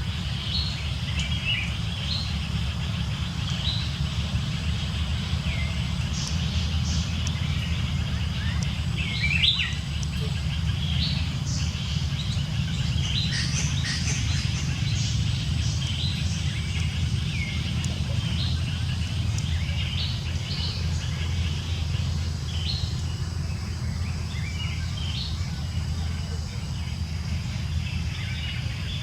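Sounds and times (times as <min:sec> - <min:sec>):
birds chirping: 0:00.0 - 0:29.0
low rumble: 0:00.0 - 0:29.0.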